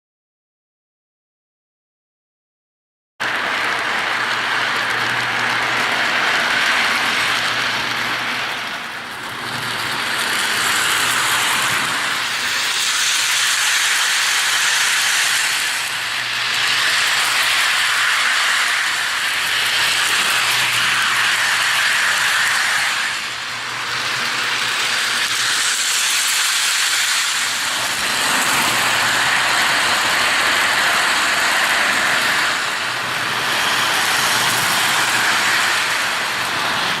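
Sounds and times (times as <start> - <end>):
model train whirring on track: 3.2 - 37.0.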